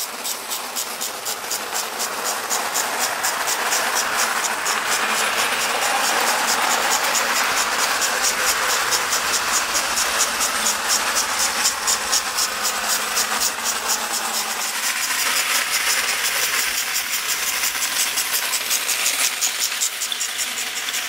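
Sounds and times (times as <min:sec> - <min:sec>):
toy train motor whirring: 0:00.0 - 0:21.0
wheels clicking and rattling on rails: 0:00.0 - 0:21.0.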